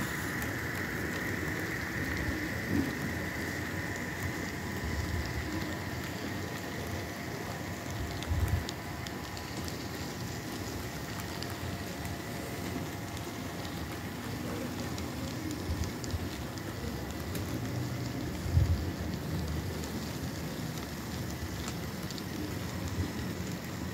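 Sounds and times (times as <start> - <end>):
faint steady whine: 0.0 - 23.9.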